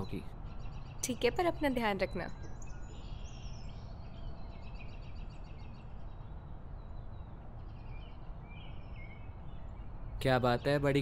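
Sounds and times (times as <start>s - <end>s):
birds chirping: 0.0s - 11.0s
low outdoor background rumble: 0.0s - 11.0s.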